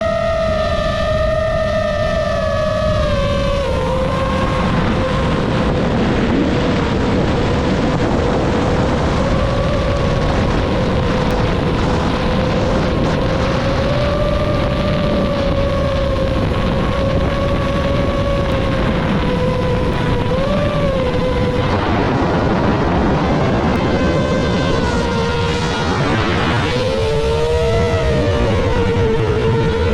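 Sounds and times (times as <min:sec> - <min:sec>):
drone motors whining: 0:00.0 - 0:29.9
loud rushing noise: 0:02.4 - 0:29.9.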